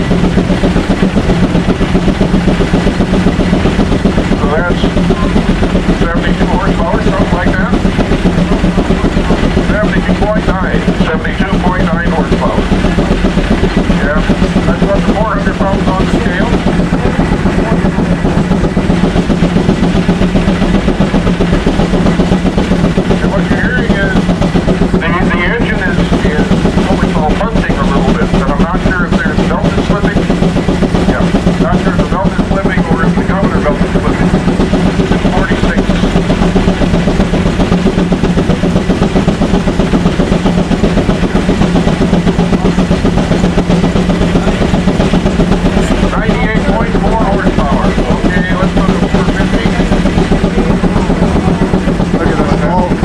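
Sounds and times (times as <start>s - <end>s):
constant low hum: 0.0s - 53.0s
steam tractor pulsing under load: 0.0s - 53.0s.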